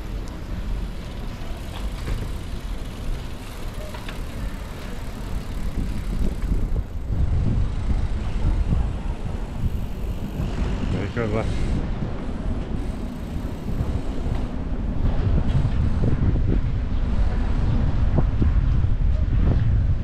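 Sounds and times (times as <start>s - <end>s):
bicycle tyre rumble: 0.0s - 20.0s
wind buffeting microphone: 0.0s - 20.0s.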